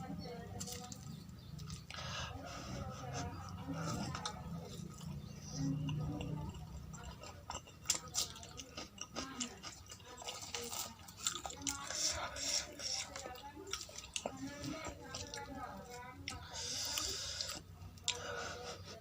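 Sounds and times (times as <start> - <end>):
chewing with mouth smacks: 0.5 - 2.2, 3.4 - 18.4.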